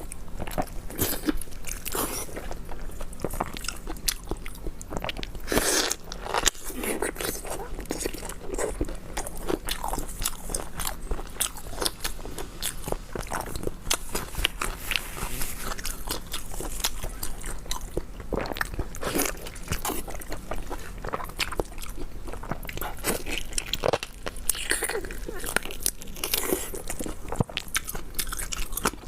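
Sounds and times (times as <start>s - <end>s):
crunchy chewing of bone cartilage: 0.0s - 29.0s.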